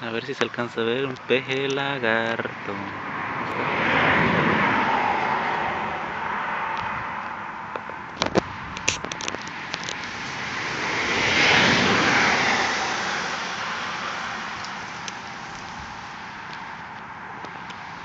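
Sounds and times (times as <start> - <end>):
road vehicle passing: 0.0 - 18.0.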